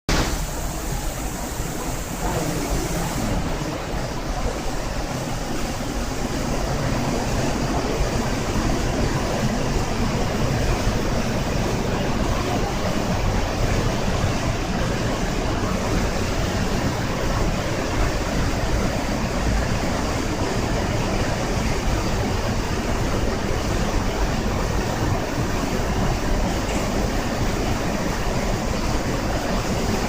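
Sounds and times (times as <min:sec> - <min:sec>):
waterfall roaring over rock: 0:00.1 - 0:30.0.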